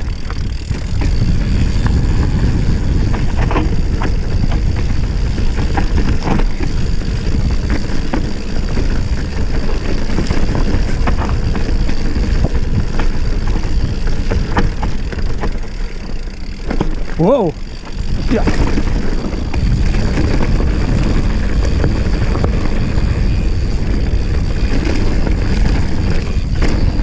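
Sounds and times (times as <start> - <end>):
wind on microphone: 0.0 - 15.6, 17.5 - 27.0
bike rattling over stones: 0.0 - 27.0
tyres rumbling on dirt: 0.0 - 27.0.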